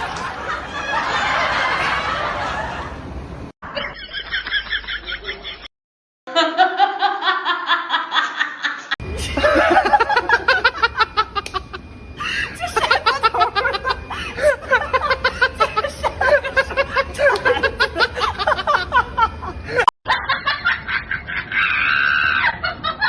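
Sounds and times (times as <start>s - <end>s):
people laughing: 0.0s - 3.1s, 3.7s - 5.7s, 6.3s - 23.0s.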